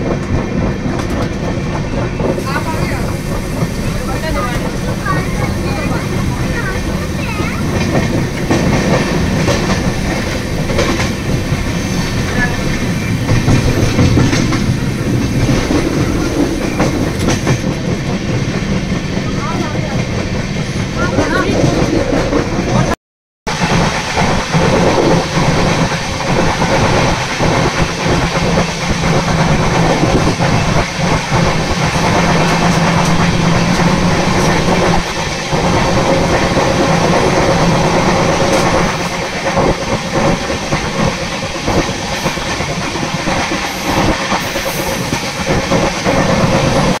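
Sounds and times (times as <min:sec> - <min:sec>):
train wheels rattling over rails: 0:00.0 - 0:47.0.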